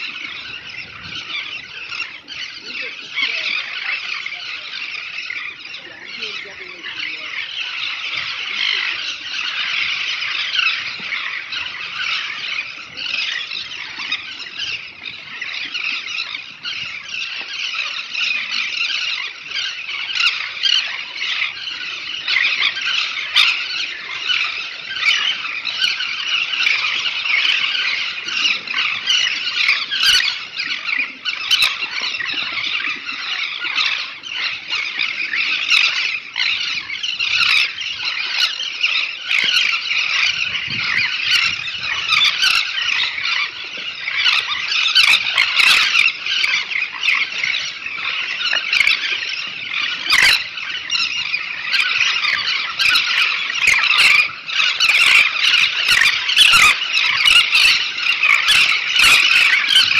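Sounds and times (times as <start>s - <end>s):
terns calling in chorus: 0.0s - 59.9s.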